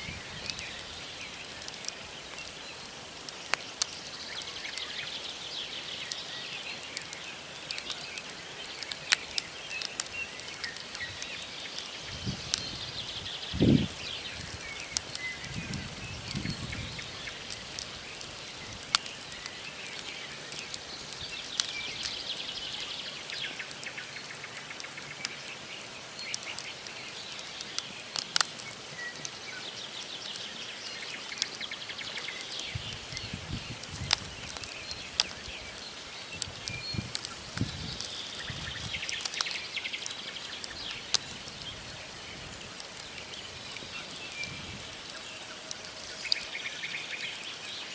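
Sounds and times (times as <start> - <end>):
birds chirping: 0.0 - 47.9
campfire crackling and popping: 0.0 - 47.9.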